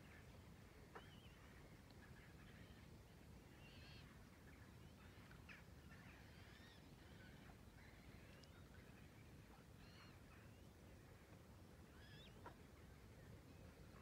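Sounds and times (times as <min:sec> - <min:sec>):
faint bird calls: 0:00.0 - 0:14.0
low steady background rumble: 0:00.0 - 0:14.0.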